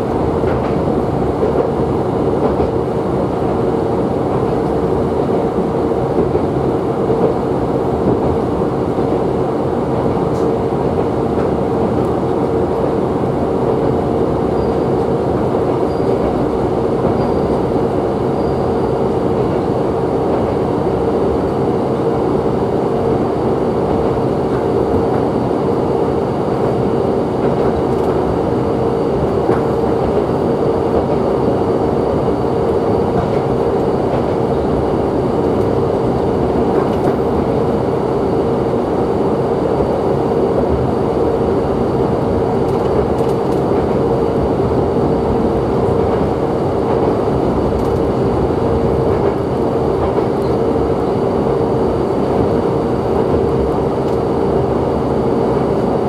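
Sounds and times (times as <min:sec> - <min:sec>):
railcar engine drone: 0:00.0 - 0:56.0
wheels rumbling on rails: 0:00.0 - 0:56.0.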